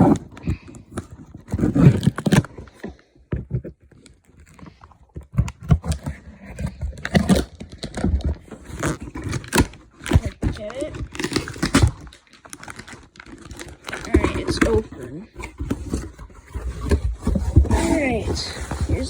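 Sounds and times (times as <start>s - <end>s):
packing tape and cardboard tearing: 0.0s - 19.0s.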